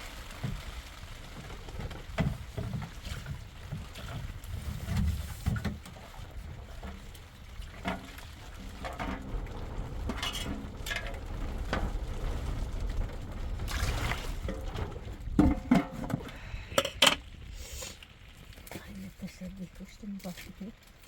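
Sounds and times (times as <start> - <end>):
wind rumble on microphone: 0.0 - 20.6
knocks and clatter: 0.4 - 17.2.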